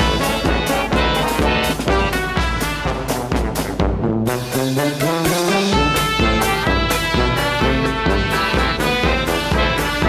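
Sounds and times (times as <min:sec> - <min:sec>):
upbeat jazz with brass: 0:00.0 - 0:10.0.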